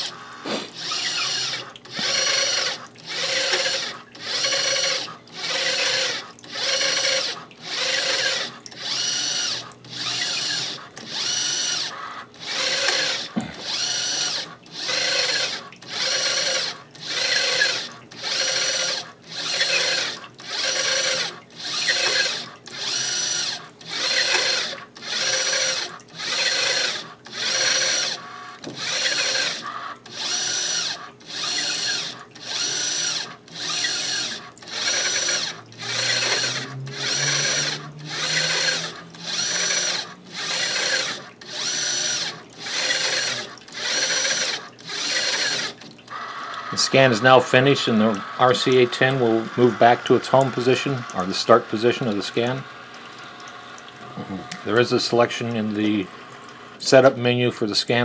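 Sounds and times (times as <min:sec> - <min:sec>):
electric motor whirring in bursts: 0:00.0 - 0:58.0.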